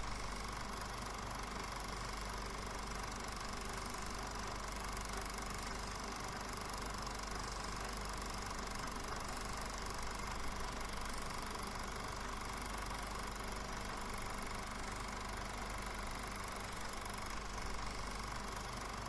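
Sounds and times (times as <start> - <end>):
film projector running: 0.0 - 19.0.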